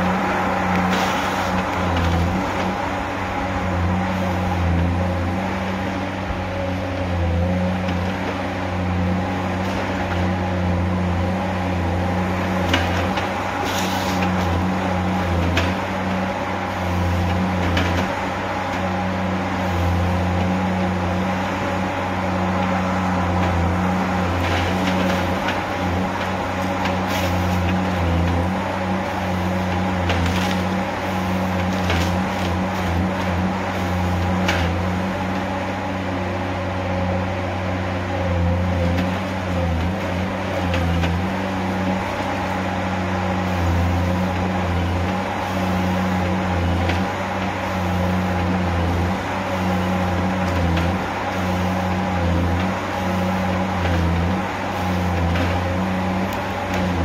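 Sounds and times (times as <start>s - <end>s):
harvester diesel engine and hydraulics: 0.0s - 57.0s.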